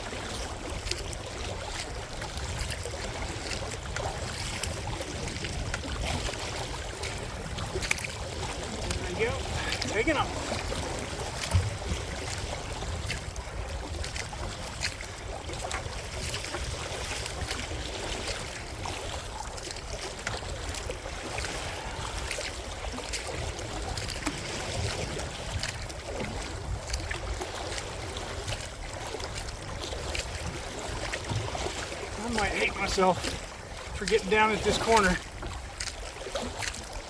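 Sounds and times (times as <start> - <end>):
water slapping against kayak hull: 0.0 - 37.0.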